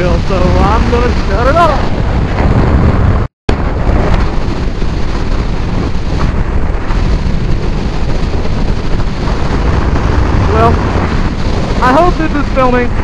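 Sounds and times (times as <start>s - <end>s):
motorcycle engine and road noise: 0.0s - 13.0s
wind blasting microphone: 0.0s - 13.0s.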